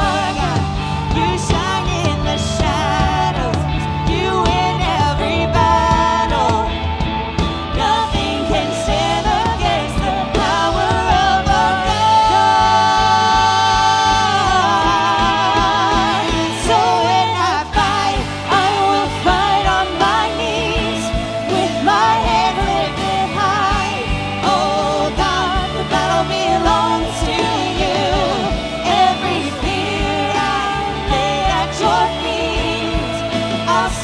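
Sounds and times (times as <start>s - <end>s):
guitars: 0.0s - 34.0s
piano: 0.0s - 34.0s
woman singing with vibrato: 0.0s - 34.0s.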